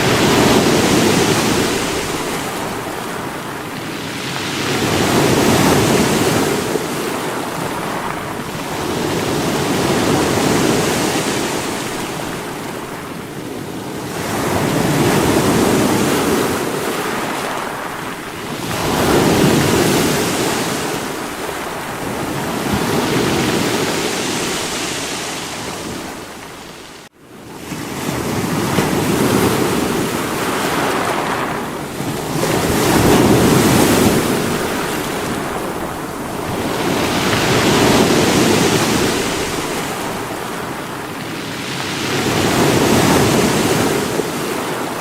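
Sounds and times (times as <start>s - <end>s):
sea waves breaking against rocks: 0.0s - 45.0s.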